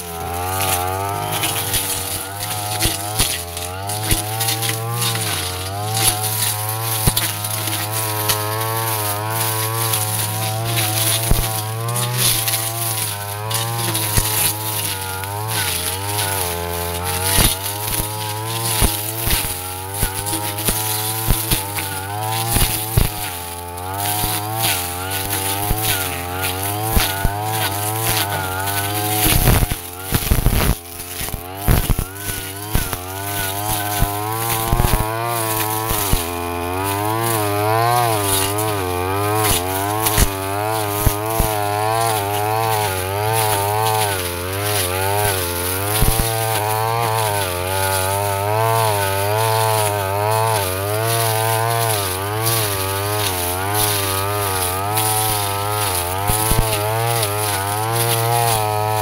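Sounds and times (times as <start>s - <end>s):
blade ticking against stems: 0.0s - 59.0s
brush cutter engine running: 0.0s - 59.0s.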